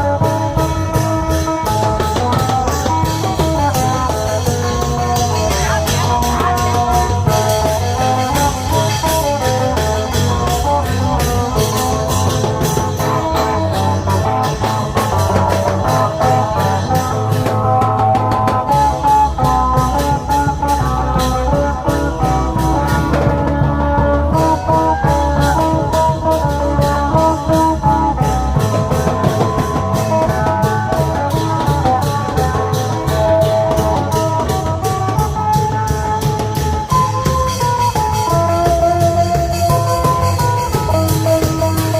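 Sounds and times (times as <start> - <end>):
long drums playing fast rhythm: 0.0 - 41.9.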